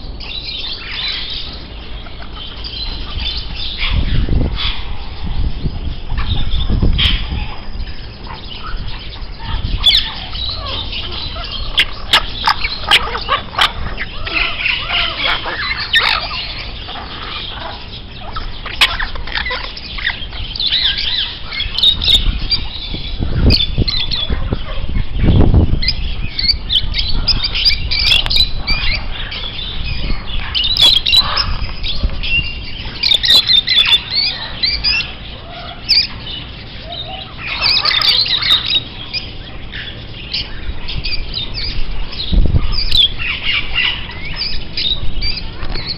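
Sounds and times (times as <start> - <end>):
birds chirping and squawking: 0.0 - 45.9.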